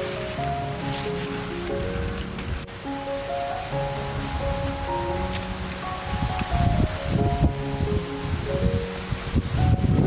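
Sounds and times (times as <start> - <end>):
slow instrumental melody: 0.0 - 10.0
steady hiss: 0.0 - 10.0.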